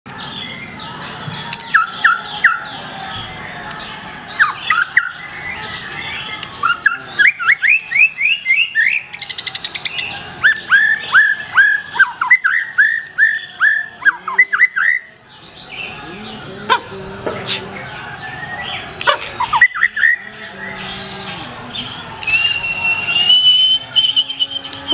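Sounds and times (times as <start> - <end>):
bird singing sharp notes: 0.2 - 24.9.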